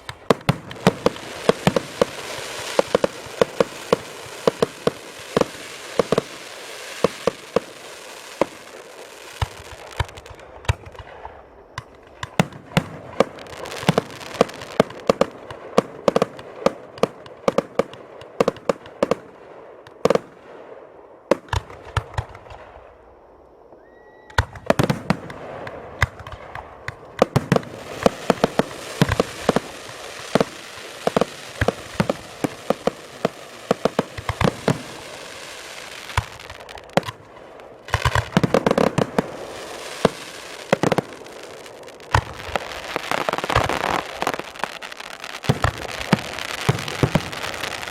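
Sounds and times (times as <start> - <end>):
fireworks bangs and pops: 0.0 - 22.9, 24.3 - 47.9.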